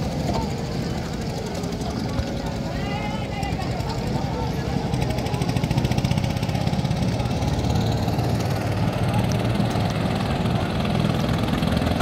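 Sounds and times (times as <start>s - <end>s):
motor boat engine rumble: 0.0s - 12.0s.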